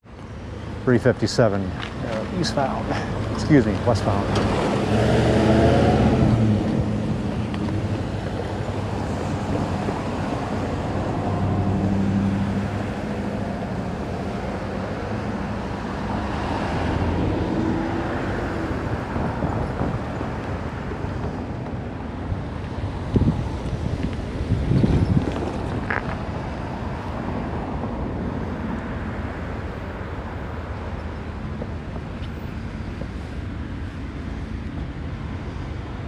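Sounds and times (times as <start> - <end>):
diesel locomotive engine rumbling: 0.1 - 36.0.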